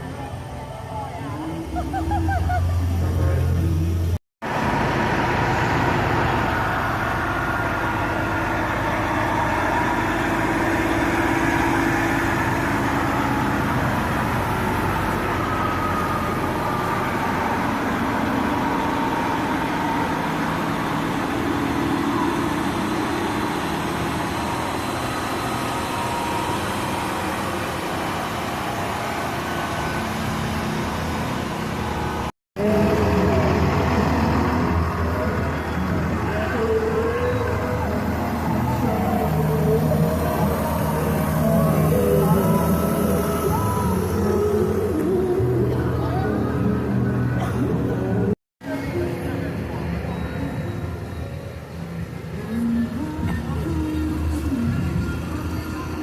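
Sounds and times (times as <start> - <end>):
street noise: 0.0 - 56.0
vehicle engines rumbling: 0.0 - 56.0.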